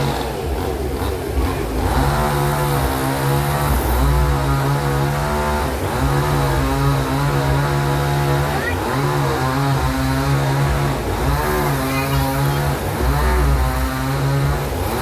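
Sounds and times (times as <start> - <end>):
chainsaw-like buzzing drone: 0.0 - 15.0.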